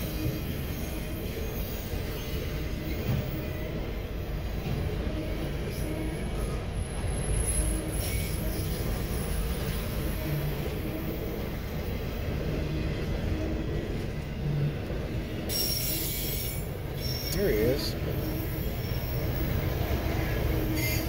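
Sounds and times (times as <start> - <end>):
freight cars rolling on rails: 0.0 - 21.0.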